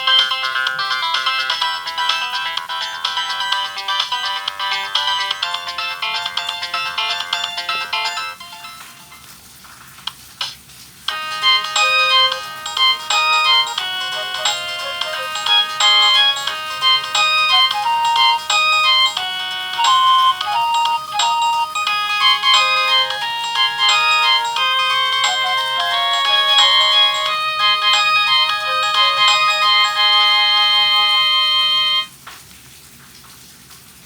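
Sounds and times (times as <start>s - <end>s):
phone ringtone melody: 0.0s - 9.3s, 11.1s - 32.1s.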